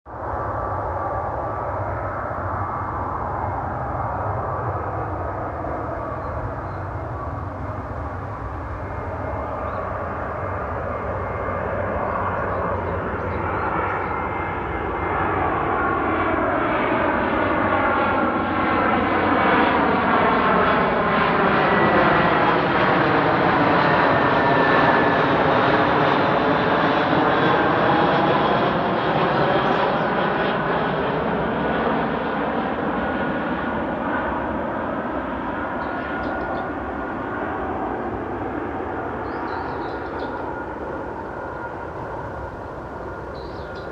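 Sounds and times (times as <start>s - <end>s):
jet airliner passing by: 0.1s - 43.9s.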